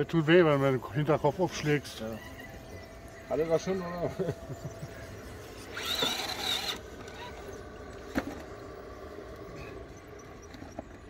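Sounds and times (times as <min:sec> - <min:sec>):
small electric motor whirring: 0:01.8 - 0:11.0.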